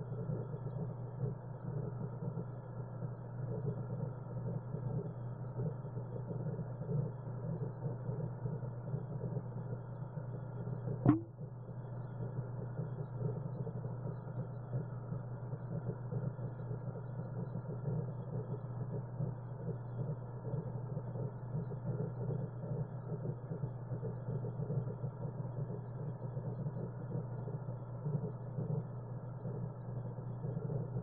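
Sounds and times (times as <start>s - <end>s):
low aquarium hum: 0.0s - 31.0s.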